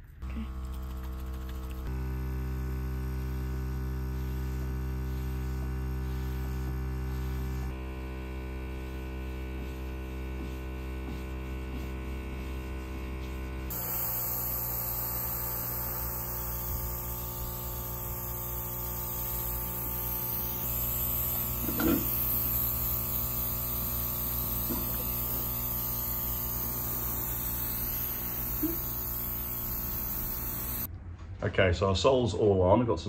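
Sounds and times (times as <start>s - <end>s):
airbrush hissing: 0.4s - 30.9s.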